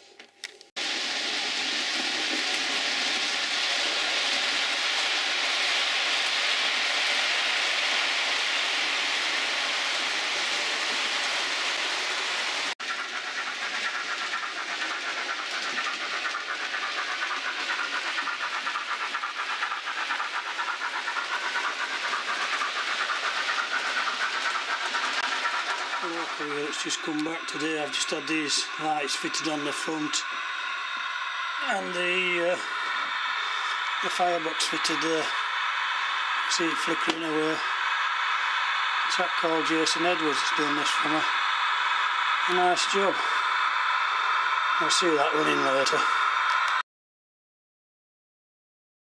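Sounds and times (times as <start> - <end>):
model train running on track: 0.8 - 46.8.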